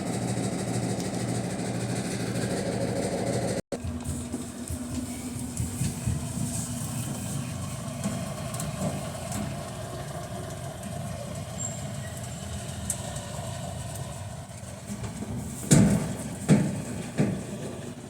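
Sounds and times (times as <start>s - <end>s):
washing machine rumbling: 0.0s - 18.0s.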